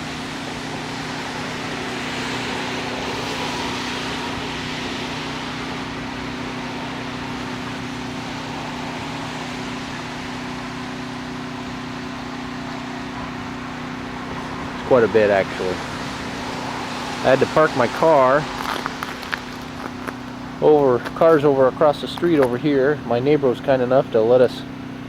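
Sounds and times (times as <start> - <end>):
even hiss: 0.0 - 23.4
steady mechanical hum: 0.0 - 25.0.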